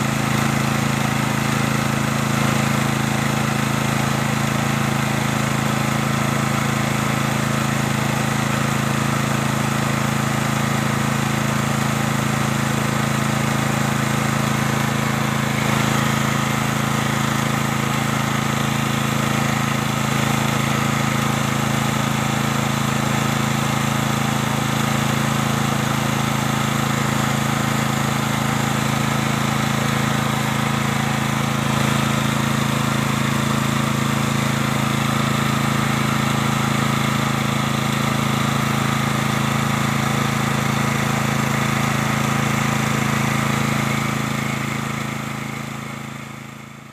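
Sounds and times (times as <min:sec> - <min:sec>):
generator engine humming: 0:00.0 - 0:46.9.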